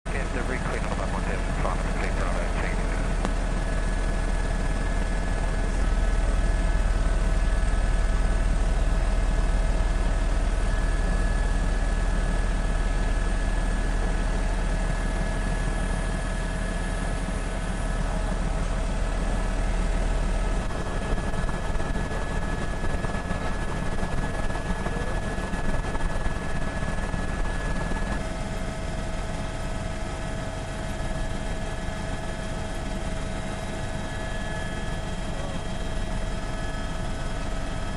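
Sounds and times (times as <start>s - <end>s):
helicopter engine and rotor drone: 0.1s - 37.9s.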